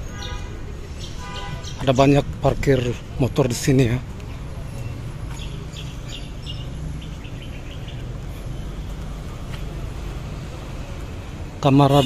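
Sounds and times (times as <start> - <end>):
low hum of traffic: 0.0 - 12.0.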